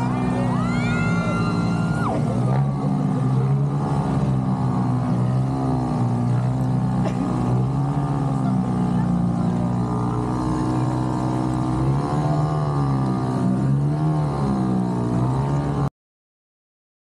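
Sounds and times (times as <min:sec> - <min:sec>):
small boat engine running: 0:00.0 - 0:15.9.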